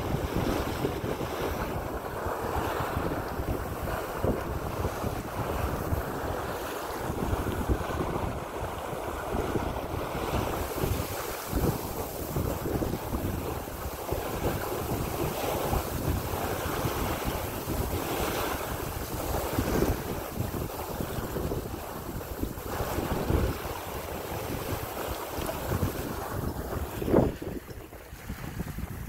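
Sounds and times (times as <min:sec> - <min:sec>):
water rushing along hull: 0:00.0 - 0:29.0
wind gusting on microphone: 0:00.0 - 0:29.0.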